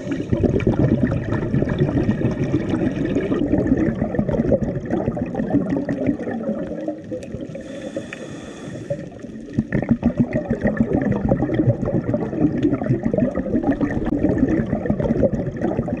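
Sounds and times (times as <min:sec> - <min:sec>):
underwater bubbles rumbling: 0:00.0 - 0:16.0.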